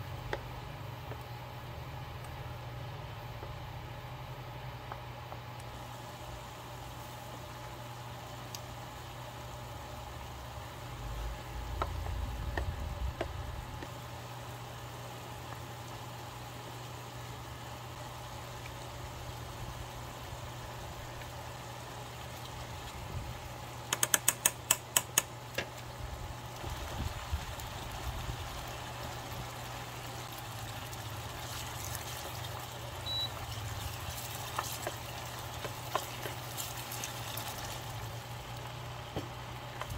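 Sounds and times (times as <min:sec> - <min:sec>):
meat simmering in a pan: 0:00.0 - 0:39.9
steady low hum: 0:00.0 - 0:39.9.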